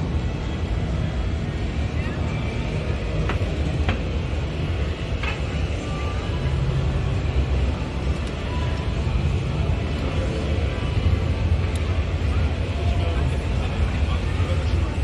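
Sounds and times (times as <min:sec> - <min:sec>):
indistinct crowd chatter: 0:00.0 - 0:15.0.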